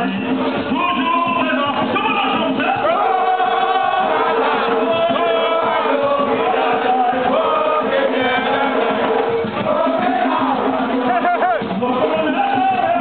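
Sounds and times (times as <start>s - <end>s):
hand drums: 0.0s - 13.0s
men singing call and response: 0.0s - 13.0s.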